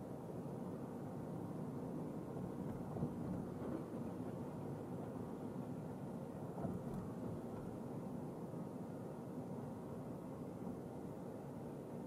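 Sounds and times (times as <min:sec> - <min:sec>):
road and engine rumble in car: 0:00.7 - 0:12.0.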